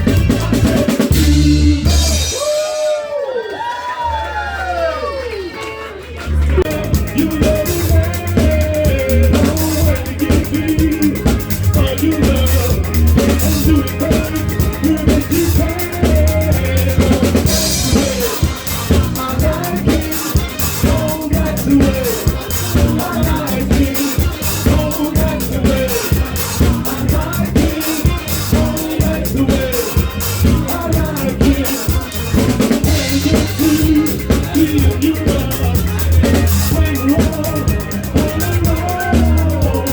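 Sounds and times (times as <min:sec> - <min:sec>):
bass drum and snare rimshots: 0:00.0 - 0:02.6, 0:06.6 - 0:39.9
live soul band playing: 0:00.0 - 0:02.9, 0:04.7 - 0:39.9.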